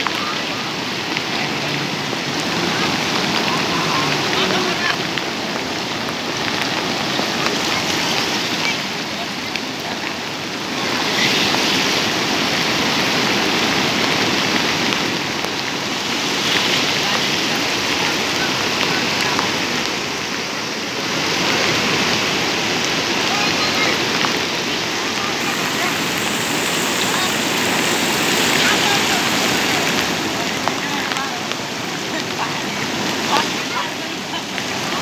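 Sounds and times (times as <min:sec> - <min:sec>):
floodwater rushing and churning: 0:00.0 - 0:35.0
rain falling: 0:00.0 - 0:35.0.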